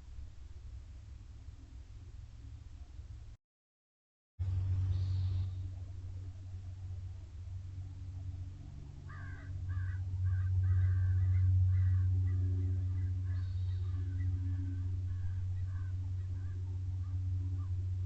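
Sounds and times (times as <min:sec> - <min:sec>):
steady low hum: 0:00.0 - 0:03.4, 0:04.4 - 0:18.0.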